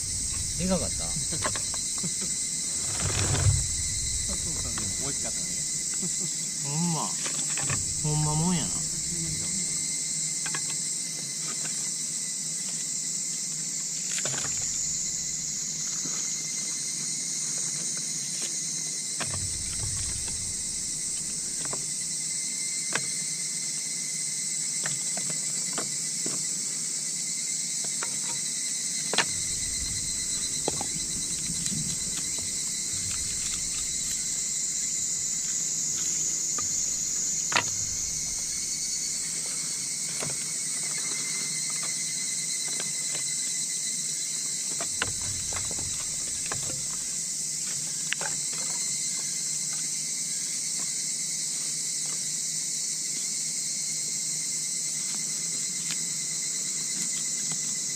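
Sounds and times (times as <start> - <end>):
crickets chirring: 0.0 - 57.9.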